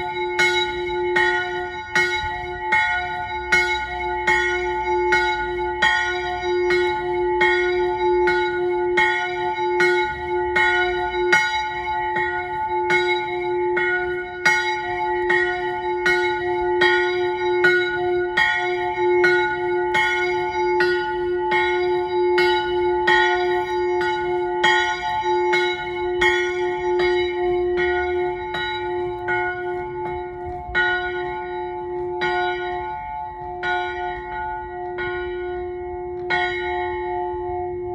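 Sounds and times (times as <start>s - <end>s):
small chapel bell ringing: 0.0s - 37.9s.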